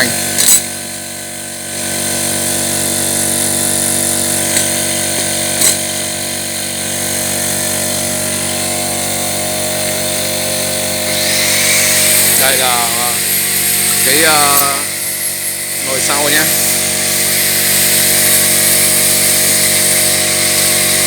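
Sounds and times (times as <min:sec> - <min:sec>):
machine droning: 0:00.0 - 0:21.0.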